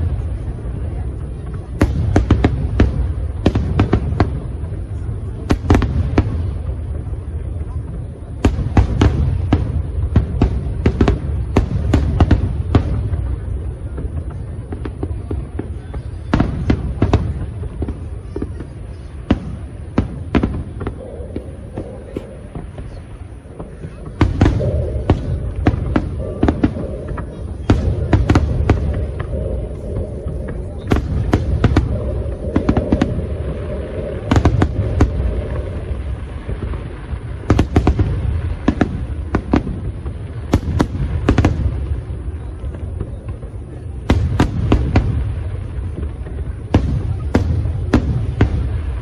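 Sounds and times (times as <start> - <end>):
fireworks bangs: 0.0 - 49.0
low rumble of fireworks: 0.0 - 49.0.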